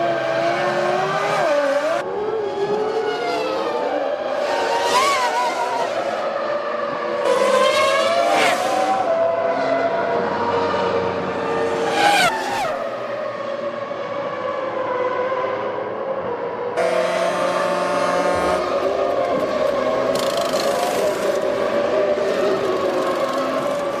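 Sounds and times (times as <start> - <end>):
race car engines passing at high revs: 0.0 - 24.0.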